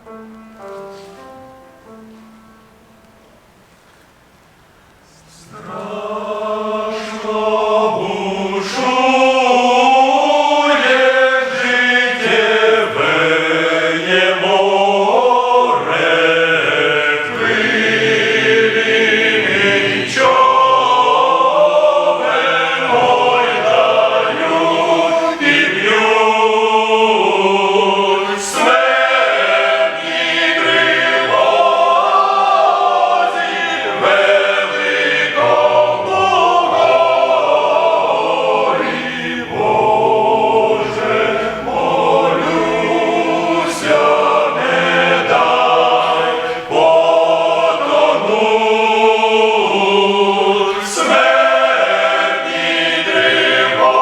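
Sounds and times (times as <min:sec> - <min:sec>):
men's choir singing a hymn: 0:05.0 - 0:54.0.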